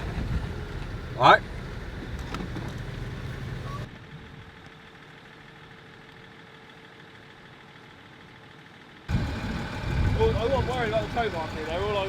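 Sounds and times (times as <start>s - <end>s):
vehicle engine idling faintly: 0.0s - 12.0s.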